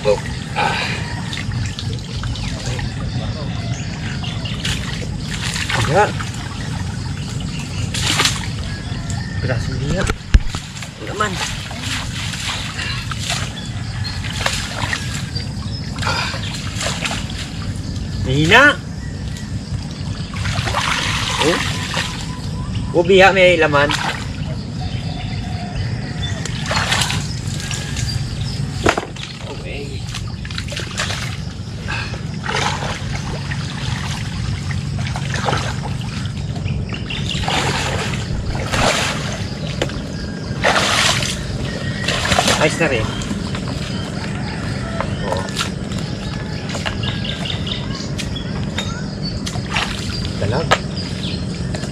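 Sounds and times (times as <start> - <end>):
low hum: 0.0 - 51.9
steady low rumble: 0.0 - 51.9
water splashing and sloshing: 0.0 - 51.9.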